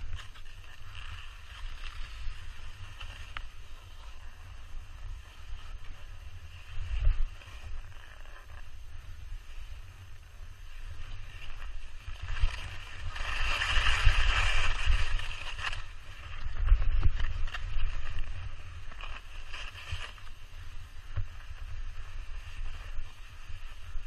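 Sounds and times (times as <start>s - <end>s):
skis scraping over snow: 0.0s - 24.0s
wind buffeting microphone: 0.0s - 24.0s.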